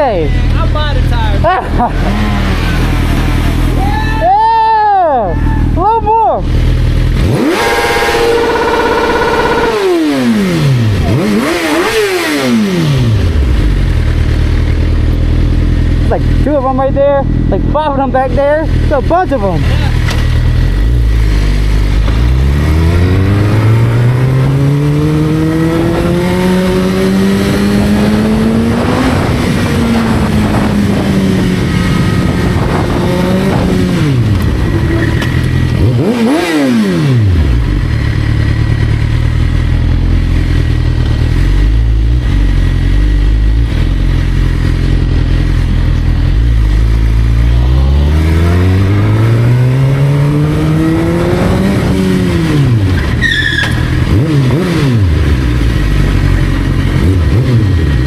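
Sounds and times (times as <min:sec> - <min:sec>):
motorcycle engine revving: 0:00.0 - 0:04.0, 0:05.6 - 0:58.0.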